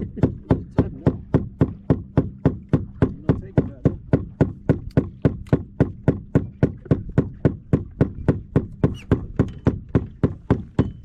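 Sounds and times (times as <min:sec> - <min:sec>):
rapid sharp knocking: 0:00.0 - 0:11.0.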